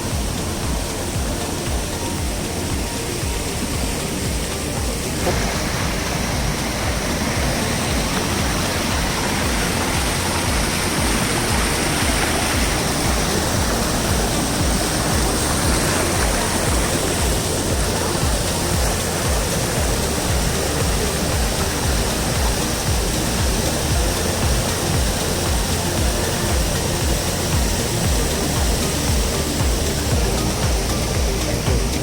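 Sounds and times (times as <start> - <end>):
low rumble: 0.0 - 32.0
stream water rushing: 0.0 - 32.0.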